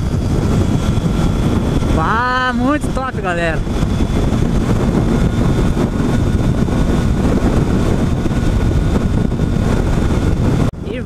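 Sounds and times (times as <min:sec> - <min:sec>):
motorcycle engine humming: 0:00.0 - 0:11.0
wind rushing over microphone: 0:00.0 - 0:11.0.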